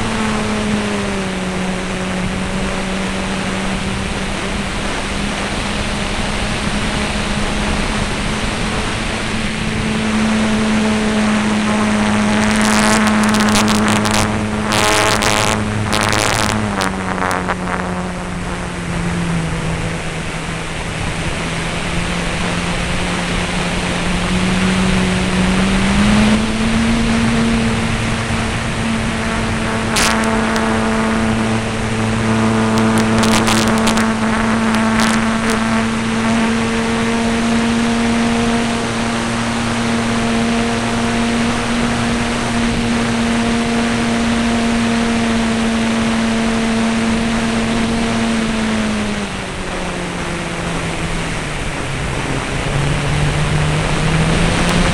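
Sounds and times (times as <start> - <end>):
model airplane motor and propeller: 0.0 - 54.9.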